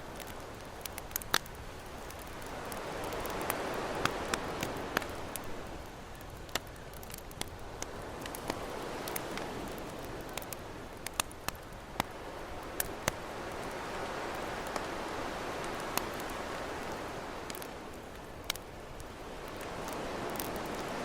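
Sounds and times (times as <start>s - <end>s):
ocean waves washing: 0.0s - 5.9s, 7.8s - 21.0s
campfire crackling and popping: 0.0s - 21.0s.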